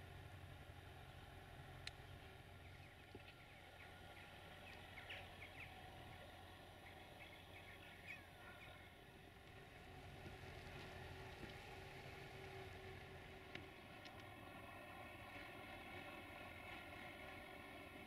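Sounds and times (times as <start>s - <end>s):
faint low hum: 0.0s - 18.0s
small birds chirping faintly: 0.0s - 18.0s.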